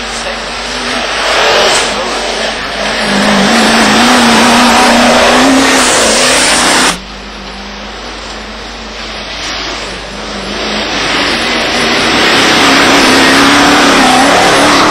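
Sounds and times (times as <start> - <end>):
engine running hard under load: 0.0 - 14.9
steady engine drone: 0.0 - 14.9.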